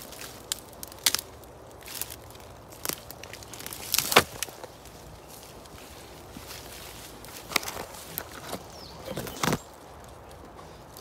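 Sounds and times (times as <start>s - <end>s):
footsteps through forest litter: 0.0s - 11.0s
twigs snapping: 0.0s - 11.0s.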